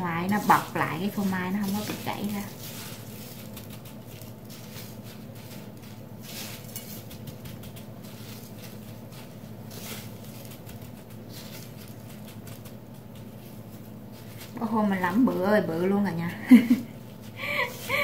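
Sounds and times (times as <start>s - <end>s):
breadcrumbs rustling: 0.0s - 18.0s
steady low hum: 0.0s - 18.0s.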